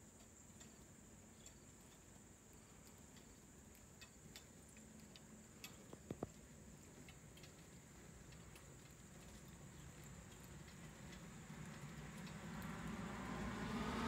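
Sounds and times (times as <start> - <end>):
faint ticks: 0.0 - 13.2
crickets chirring: 0.0 - 14.0.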